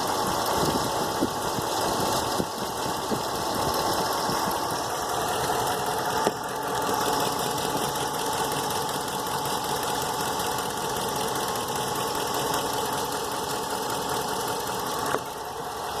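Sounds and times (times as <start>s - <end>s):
engine running with knock: 0.0s - 16.0s.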